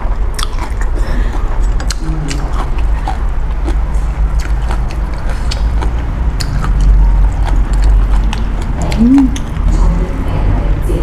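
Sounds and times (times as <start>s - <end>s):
steady low hum: 0.0s - 11.0s
person chewing noodles: 0.3s - 9.8s.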